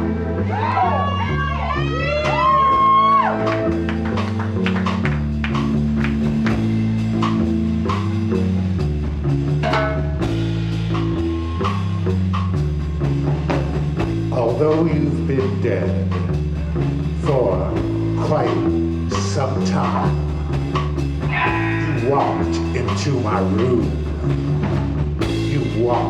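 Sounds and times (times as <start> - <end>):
rock band playing: 0.0 - 26.0
drum kit beat: 1.5 - 26.0.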